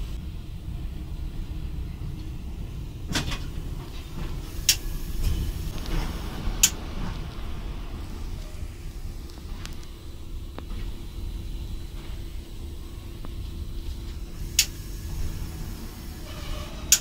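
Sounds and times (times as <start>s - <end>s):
locomotive low rumble: 0.0s - 17.0s.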